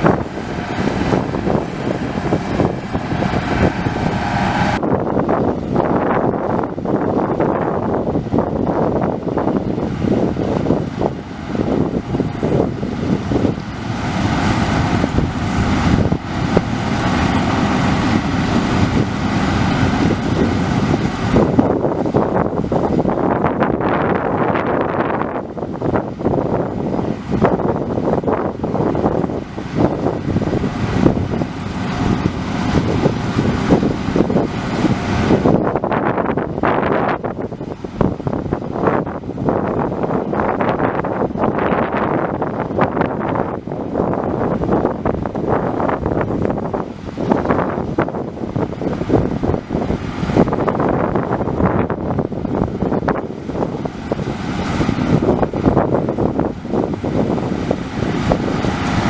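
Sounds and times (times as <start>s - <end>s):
combine harvester running: 0.0s - 59.0s
wind buffeting microphone: 0.0s - 59.0s.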